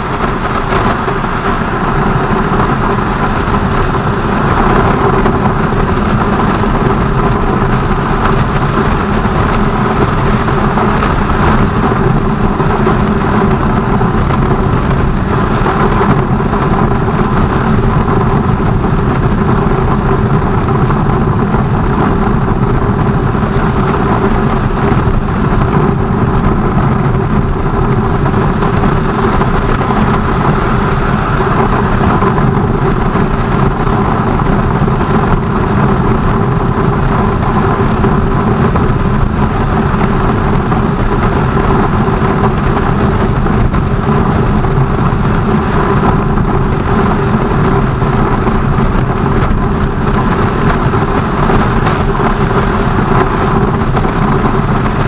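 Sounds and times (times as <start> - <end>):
dense rushing noise: 0.0 - 55.0
motorcycle engine running: 0.0 - 55.0.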